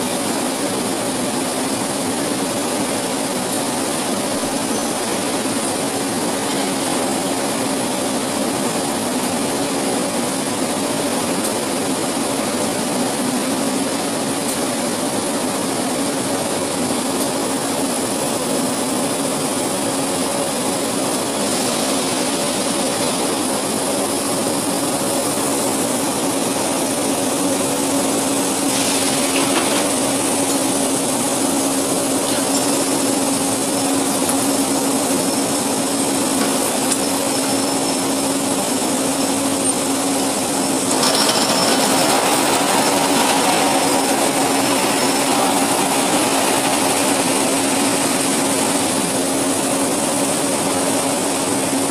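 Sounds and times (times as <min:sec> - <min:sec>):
machinery hum and hiss: 0:00.0 - 0:51.9.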